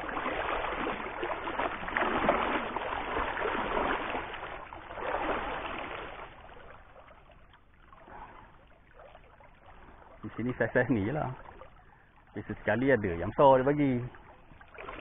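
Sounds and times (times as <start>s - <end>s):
water splashing and gurgling: 0.0s - 15.0s.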